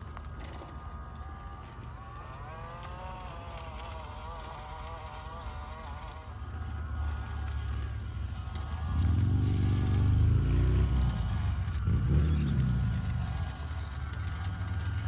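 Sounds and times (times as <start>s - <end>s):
electric motor buzzing whine: 0.0s - 15.0s
low rumble: 0.0s - 15.0s.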